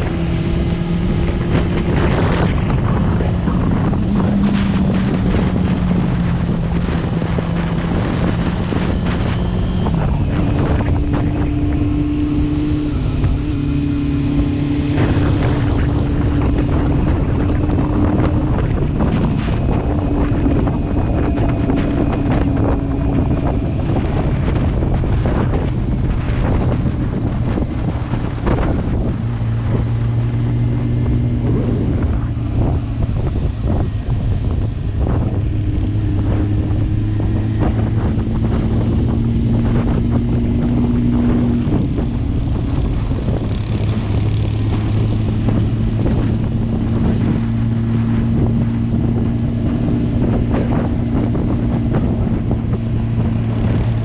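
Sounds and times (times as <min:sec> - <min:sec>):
motorcycle engine riding: 0:00.0 - 0:54.0
wind noise on microphone: 0:00.0 - 0:54.0.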